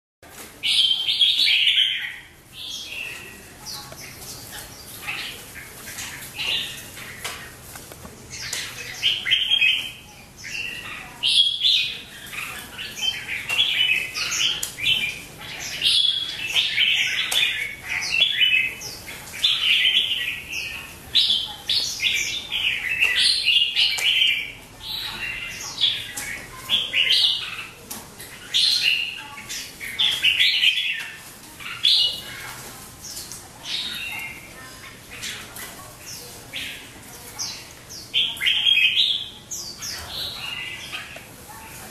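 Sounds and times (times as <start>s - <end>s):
bulbuls singing: 0.2s - 41.9s.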